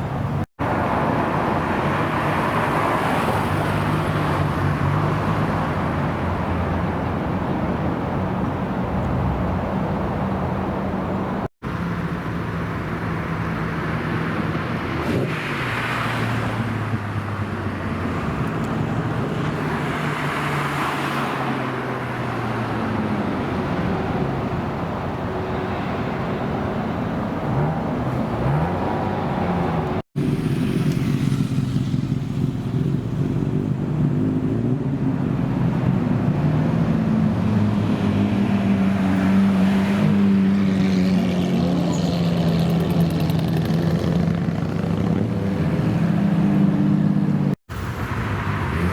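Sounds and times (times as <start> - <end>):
cars driving past: 0.6 - 48.9.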